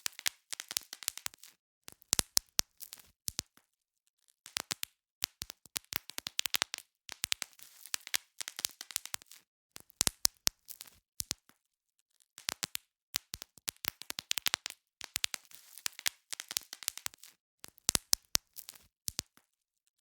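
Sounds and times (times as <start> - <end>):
bubble wrap popping: 0.0 - 3.6, 4.5 - 11.6, 12.4 - 19.4.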